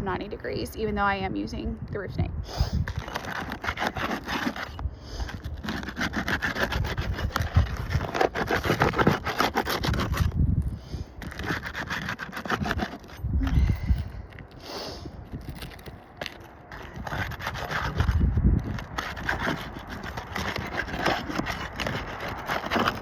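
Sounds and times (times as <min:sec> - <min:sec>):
roof bar scraping under shingle: 0:02.5 - 0:23.0.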